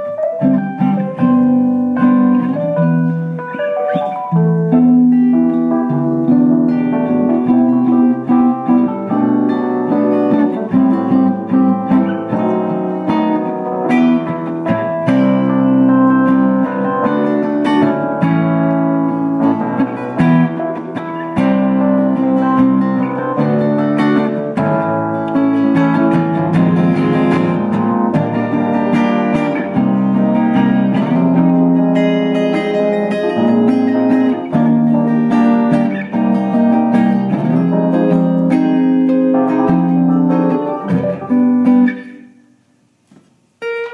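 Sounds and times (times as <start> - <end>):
acoustic guitar strumming chords: 0.0 - 43.9.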